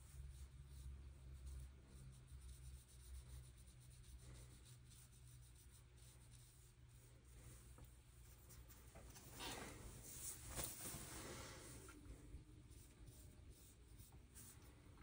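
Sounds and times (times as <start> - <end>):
brush strokes on paper: 0.0 - 15.0
low room hum: 0.0 - 15.0.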